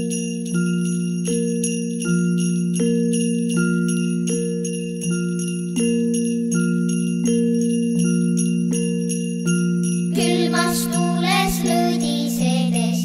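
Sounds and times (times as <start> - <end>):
jingle bells shaken: 0.0 - 13.0.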